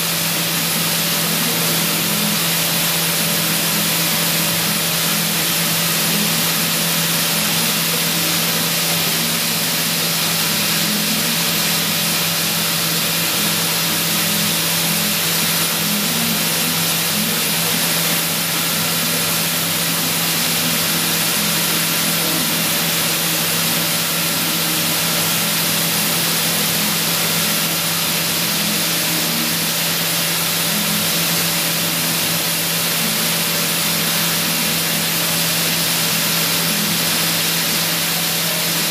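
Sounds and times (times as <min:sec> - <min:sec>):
machining whir and hiss: 0:00.0 - 0:38.9
thin high whine: 0:00.0 - 0:38.9.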